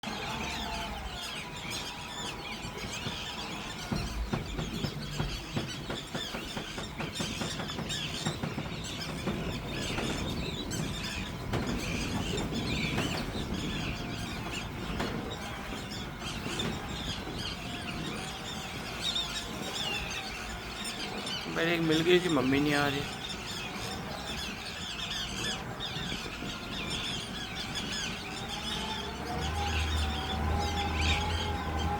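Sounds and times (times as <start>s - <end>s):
tern chicks chirping shrilly: 0.0s - 31.9s.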